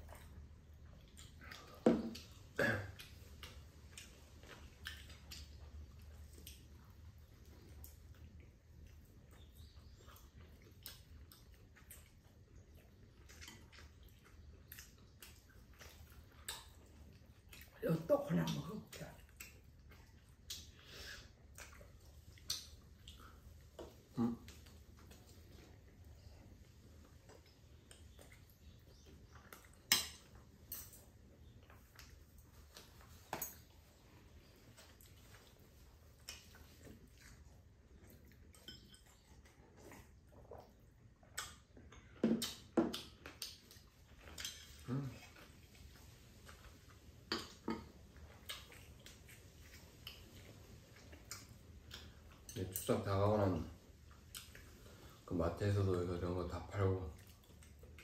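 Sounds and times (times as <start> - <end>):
person chewing: 0.0 - 17.8, 19.2 - 52.6, 53.8 - 55.2, 57.1 - 58.0.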